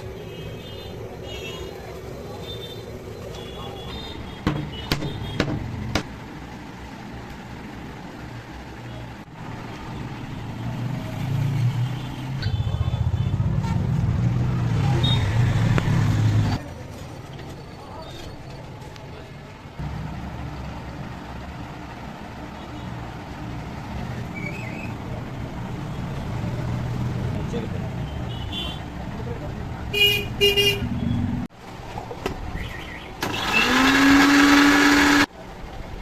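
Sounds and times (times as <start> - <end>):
vehicle engines rumbling: 0.0 - 34.1.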